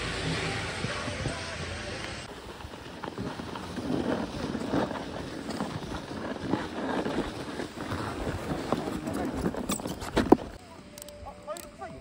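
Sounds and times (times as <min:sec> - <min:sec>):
skis sliding on snow: 0:00.0 - 0:10.6.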